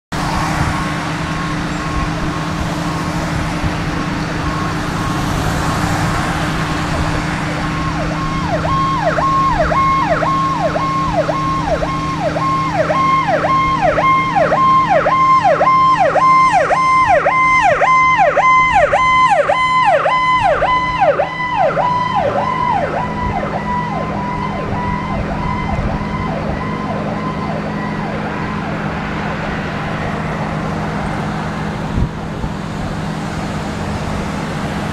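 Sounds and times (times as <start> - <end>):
road traffic: 0.0 - 34.9
ambulance siren: 0.1 - 34.9.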